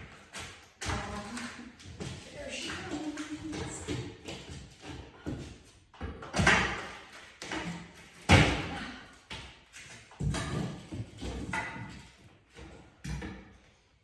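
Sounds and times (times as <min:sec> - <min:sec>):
demolition knocks and thuds: 0:00.0 - 0:09.1, 0:09.8 - 0:13.5.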